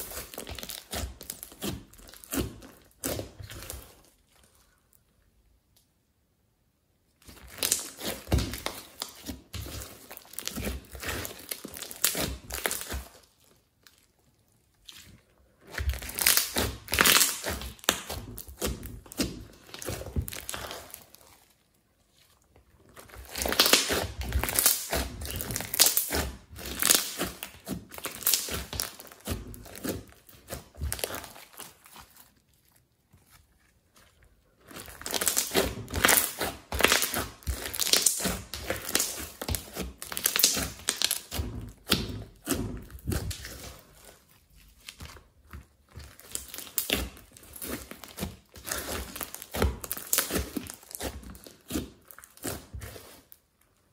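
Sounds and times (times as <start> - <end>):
slime with foam beads squished by hand: 0.0 - 5.0, 7.1 - 53.9
wet crackling and popping: 7.2 - 52.8.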